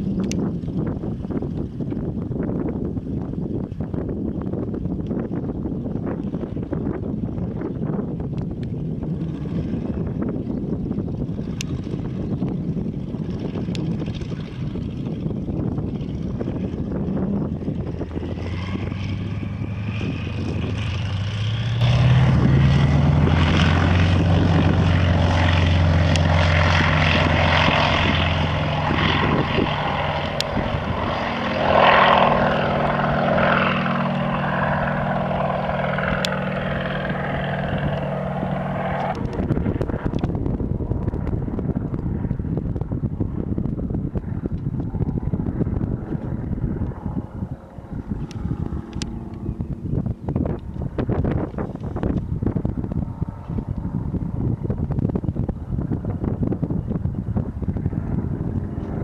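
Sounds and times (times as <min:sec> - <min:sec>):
propeller plane engine: 0:00.0 - 0:59.0.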